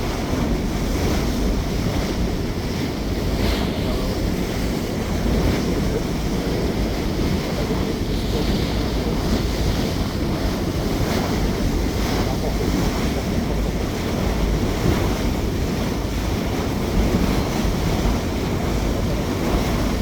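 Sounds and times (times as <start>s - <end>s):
rush of wind and water: 0.0s - 20.0s
wind buffeting microphone: 0.0s - 20.0s.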